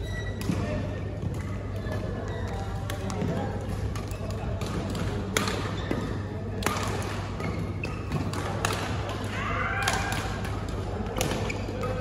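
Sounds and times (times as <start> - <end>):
rackets hitting shuttlecock: 0.2 - 12.0.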